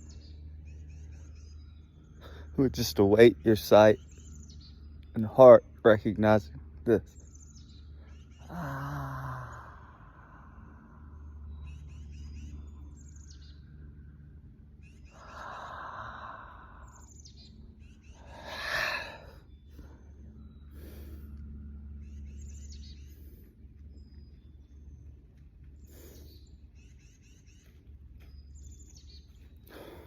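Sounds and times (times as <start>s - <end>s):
birds chirping and singing: 0.0s - 30.0s
steady low hum: 0.0s - 30.0s.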